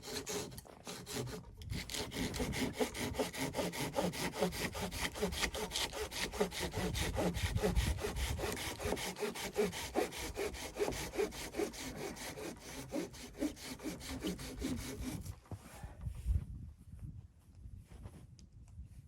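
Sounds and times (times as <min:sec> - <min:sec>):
hand saw sawing wood: 0:00.0 - 0:15.3.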